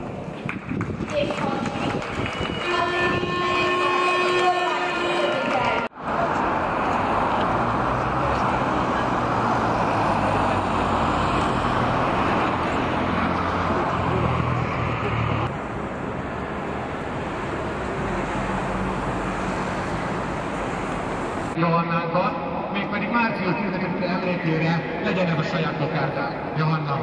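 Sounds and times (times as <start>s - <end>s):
cars passing on road: 0.0s - 27.0s.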